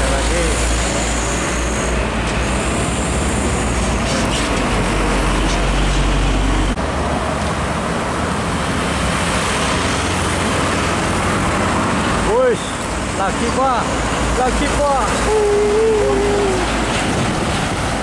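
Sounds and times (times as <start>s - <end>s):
trucks passing rumbling: 0.0s - 18.0s.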